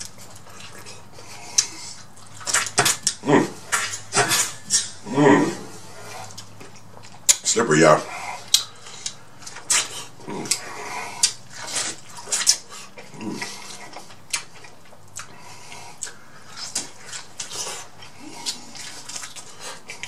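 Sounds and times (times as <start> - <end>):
person chewing corn on the cob: 0.0 - 20.0.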